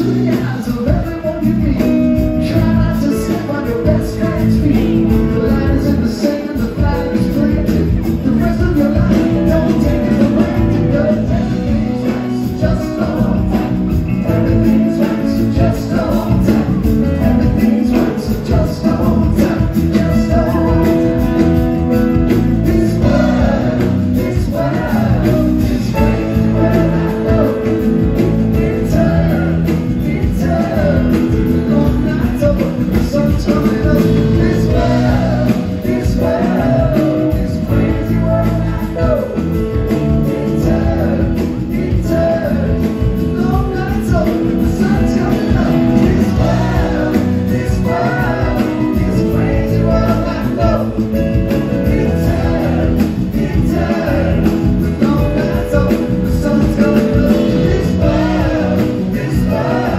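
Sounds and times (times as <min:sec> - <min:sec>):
electric guitar: 0:00.0 - 0:59.9
live rock band playing: 0:00.0 - 0:59.9
organ and keyboards: 0:00.0 - 0:59.9
vocals: 0:00.0 - 0:59.9.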